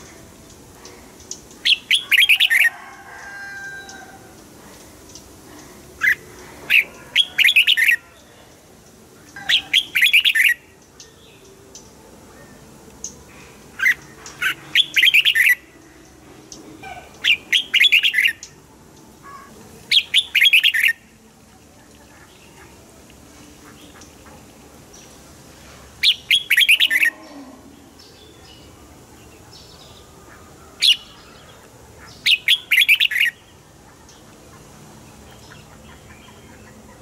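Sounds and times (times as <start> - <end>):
bulbul singing: 0.0 - 37.0.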